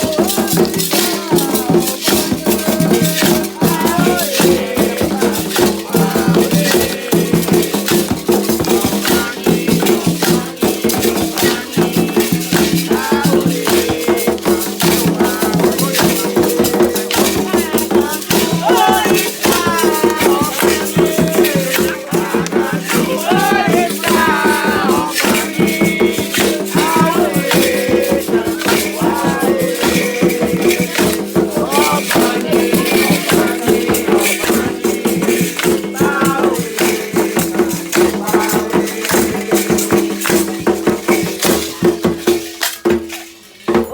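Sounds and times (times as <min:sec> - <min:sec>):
group singing chants: 0:00.0 - 0:43.2
percussion: 0:00.0 - 0:43.9
shaken rattles: 0:00.0 - 0:43.9.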